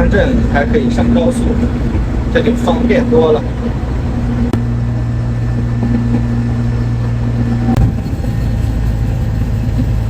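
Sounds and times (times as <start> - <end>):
bus engine drone: 0.0 - 10.0
low hum: 0.0 - 10.0
road noise: 0.0 - 10.0.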